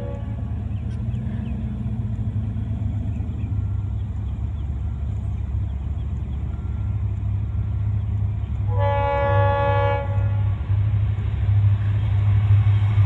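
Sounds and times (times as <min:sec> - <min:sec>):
diesel freight train rumble: 0:00.0 - 0:13.0.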